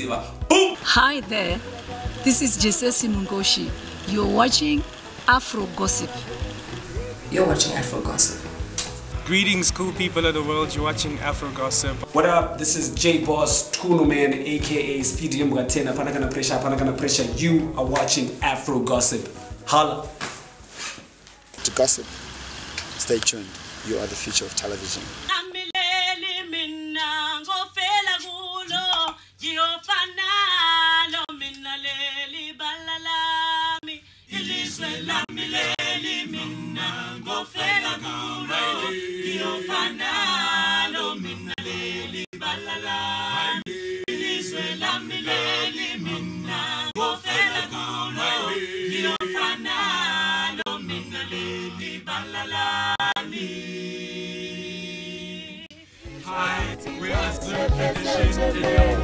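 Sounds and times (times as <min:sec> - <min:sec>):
a cappella group singing: 0:00.0 - 0:21.1, 0:25.3 - 0:59.0.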